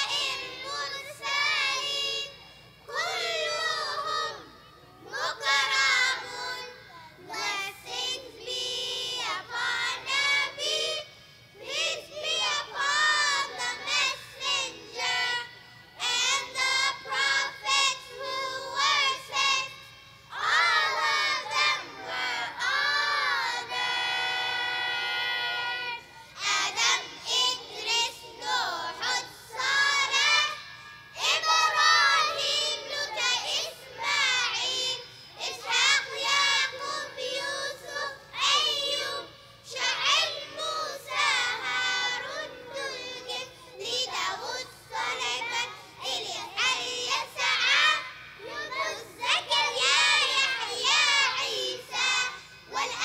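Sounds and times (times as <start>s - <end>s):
child chanting melodically: 0.0s - 53.0s.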